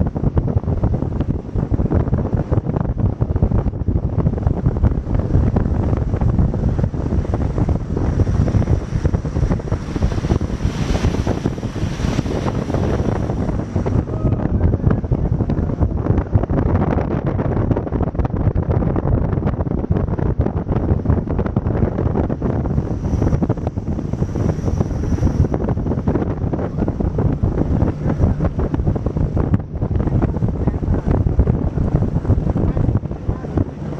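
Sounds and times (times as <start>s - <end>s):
boat rushing over water: 0.0s - 33.9s
wind buffeting microphone: 0.0s - 33.9s.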